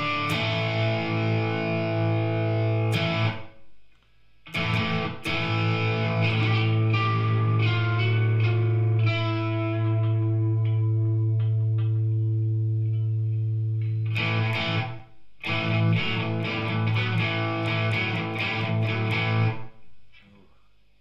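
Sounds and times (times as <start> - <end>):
overdriven electric guitar chords: 0.0 - 3.6, 4.4 - 19.9.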